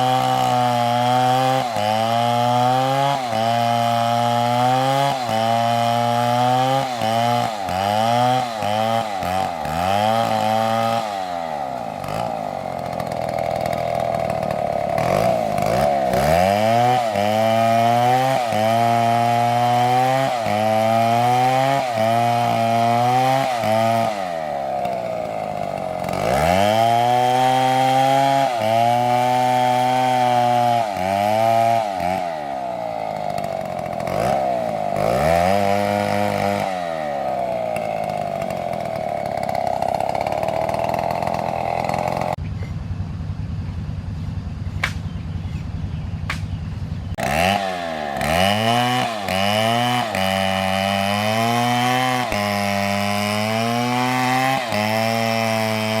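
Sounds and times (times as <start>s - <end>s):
chainsaw cutting logs: 0.0s - 42.4s, 43.9s - 56.0s.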